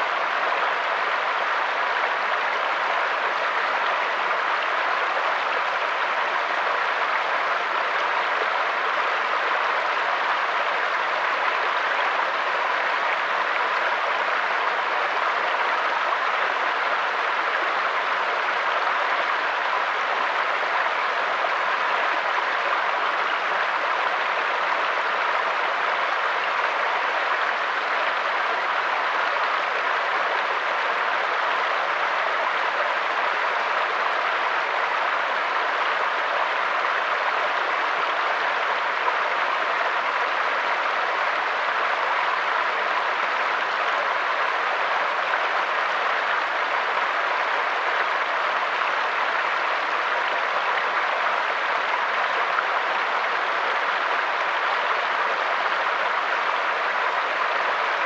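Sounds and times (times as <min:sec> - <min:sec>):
stream running over stones: 0:00.0 - 0:58.0.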